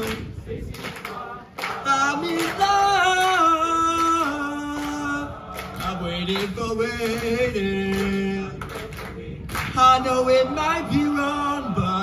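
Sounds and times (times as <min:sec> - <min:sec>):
chorus singing held notes: 0:00.0 - 0:12.0.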